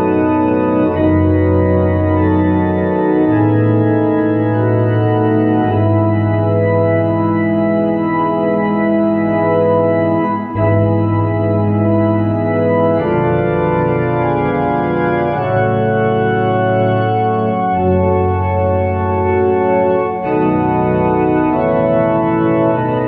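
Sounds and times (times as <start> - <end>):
organ playing hymn chords: 0.0 - 23.0.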